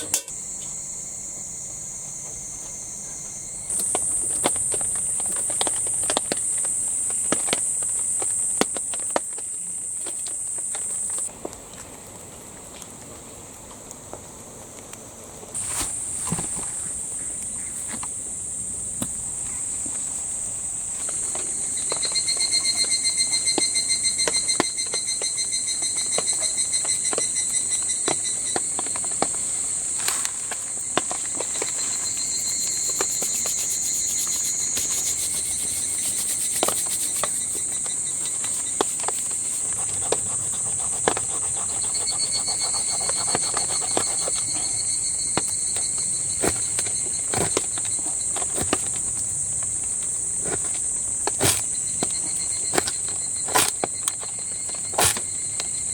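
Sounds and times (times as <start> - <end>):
insects trilling: 0.0 - 11.3, 15.6 - 55.9
lower insect call: 0.0 - 11.3, 15.6 - 55.9.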